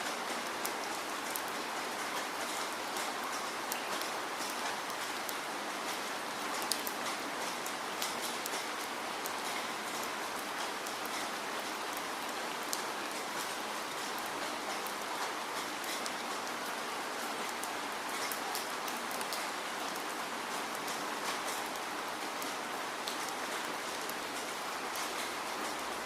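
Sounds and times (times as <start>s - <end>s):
rain falling: 0.0s - 26.0s
raindrops pattering on surface: 0.0s - 26.0s.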